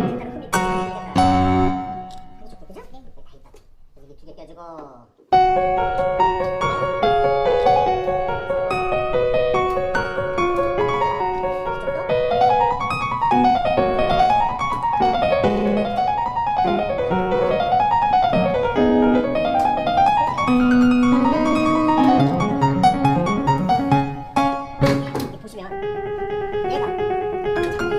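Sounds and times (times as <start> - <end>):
piano music: 0.0 - 2.6, 5.3 - 27.9.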